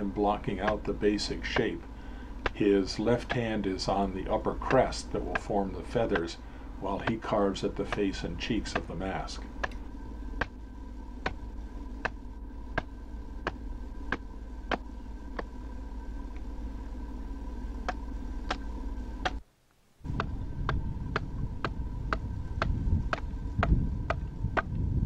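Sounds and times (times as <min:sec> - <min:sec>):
steady hum and hiss: 0:00.0 - 0:25.0
adze chopping wood: 0:00.4 - 0:03.7, 0:04.6 - 0:10.6, 0:11.2 - 0:15.6, 0:17.8 - 0:19.4, 0:20.1 - 0:24.8.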